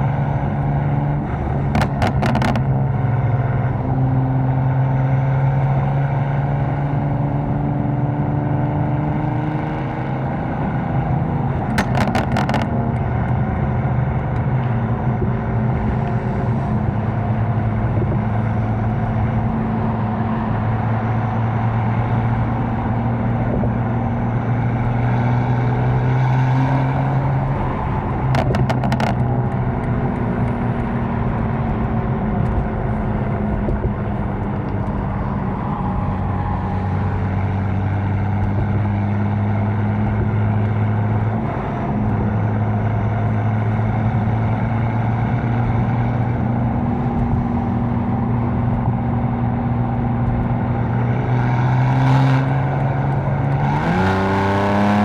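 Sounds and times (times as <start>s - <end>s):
car engine droning: 0.0s - 55.0s.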